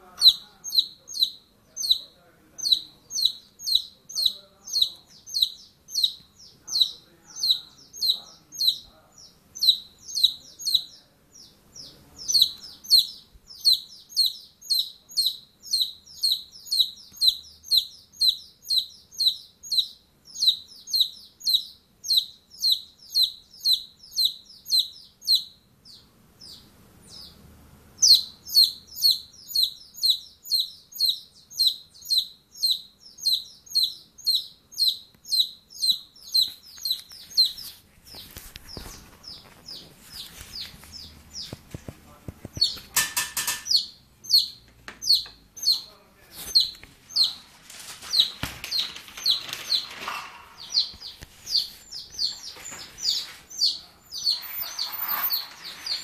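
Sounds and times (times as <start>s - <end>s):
bird chirping: 0.0s - 56.0s.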